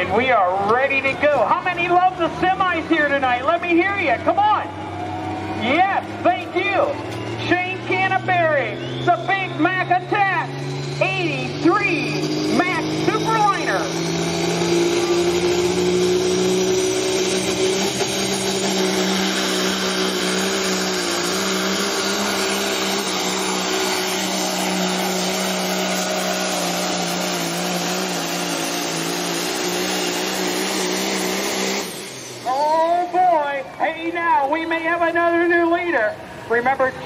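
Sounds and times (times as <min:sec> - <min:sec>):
truck diesel engine under load: 0:00.0 - 0:37.0.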